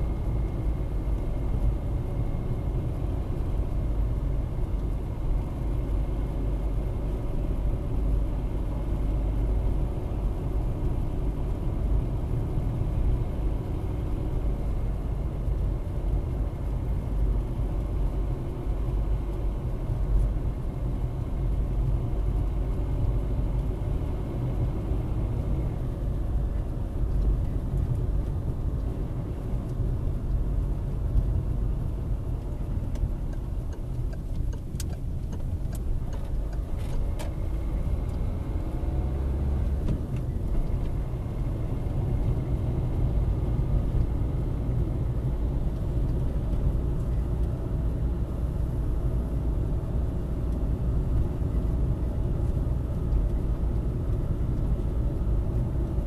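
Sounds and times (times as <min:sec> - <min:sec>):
engine and tyres rumbling on road: 0:00.0 - 0:56.0.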